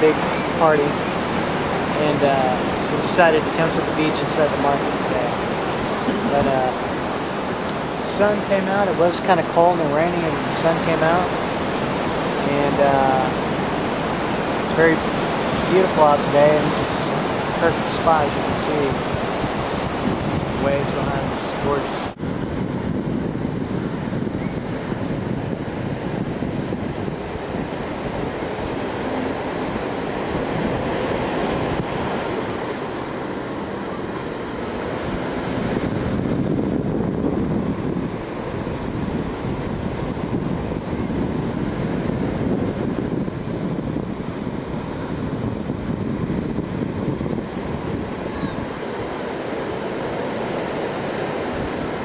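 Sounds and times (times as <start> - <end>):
ocean surf on stony shore: 0.0 - 52.0
wind buffeting microphone: 0.0 - 52.0.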